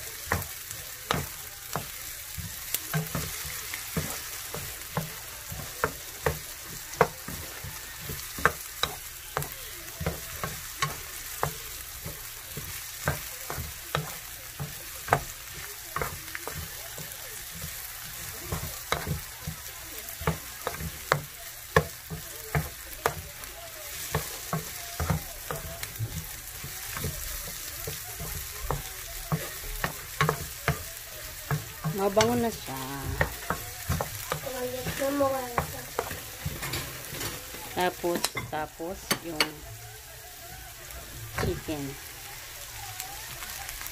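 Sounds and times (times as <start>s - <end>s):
onions sizzling in oil: 0.0s - 43.9s.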